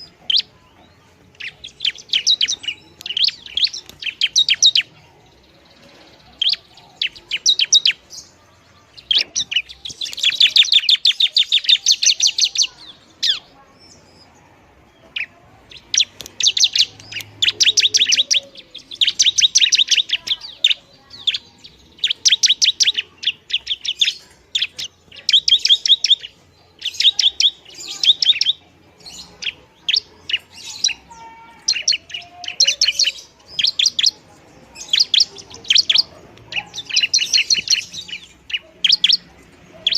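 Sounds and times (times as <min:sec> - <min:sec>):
bird rapid high chattering: 0:01.2 - 0:05.0, 0:05.7 - 0:14.0, 0:15.1 - 0:39.9.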